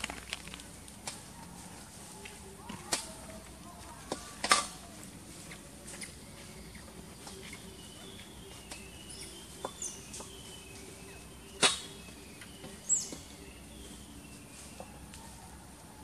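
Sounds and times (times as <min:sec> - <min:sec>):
outdoor background: 0:00.0 - 0:16.0.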